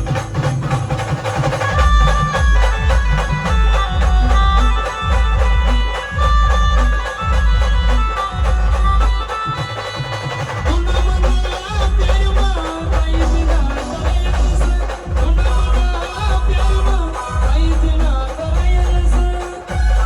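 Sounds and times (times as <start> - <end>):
heavy bass beat: 1.7 - 9.6, 10.6 - 20.0.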